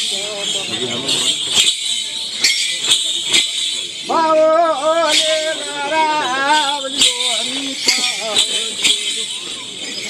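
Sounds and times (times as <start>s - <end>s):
bells jingling in a beat: 0.0s - 10.0s.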